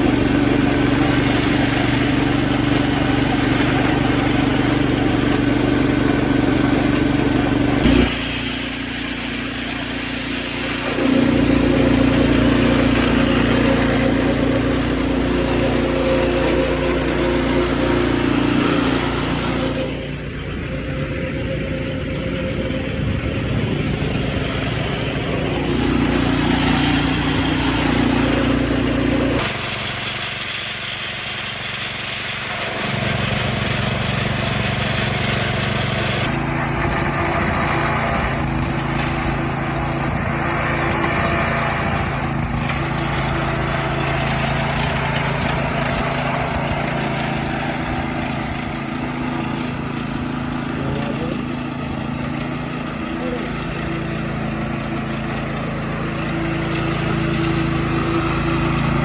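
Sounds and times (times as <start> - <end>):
small gasoline engine running: 0.0 - 59.0.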